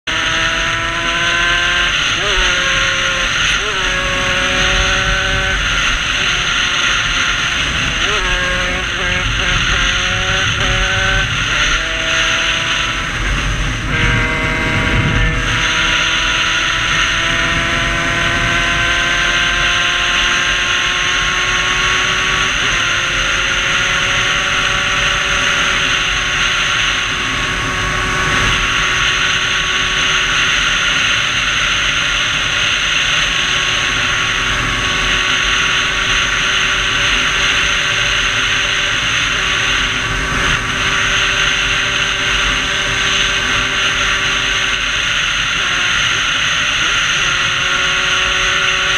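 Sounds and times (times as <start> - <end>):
two-stroke moped engine revving: 0.0 - 48.9.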